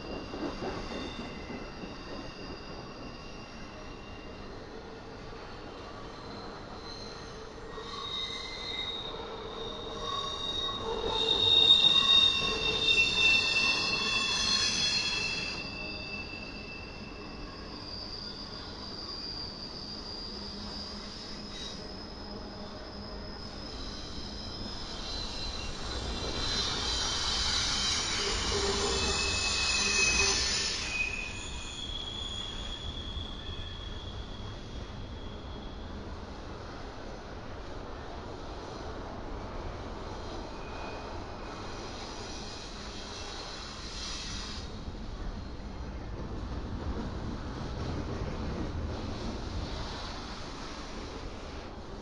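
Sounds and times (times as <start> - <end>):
train wheels squealing on rails: 0.0 - 52.0.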